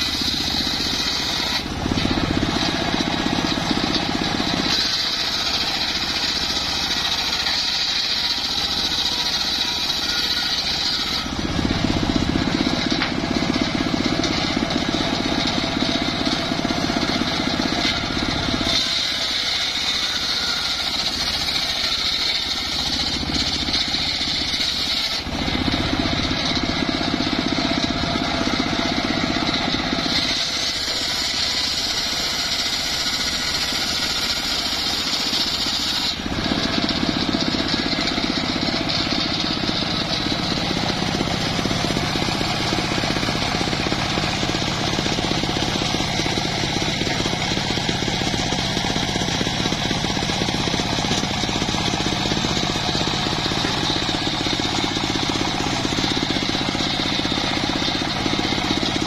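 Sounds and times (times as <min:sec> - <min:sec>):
low drone of saw drive: 0:00.0 - 0:59.0
saw blade cutting wood: 0:00.0 - 0:59.0.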